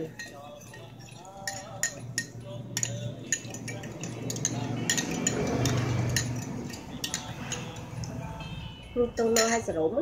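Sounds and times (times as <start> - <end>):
metal spoon stirring in bowl: 0.0 - 9.8.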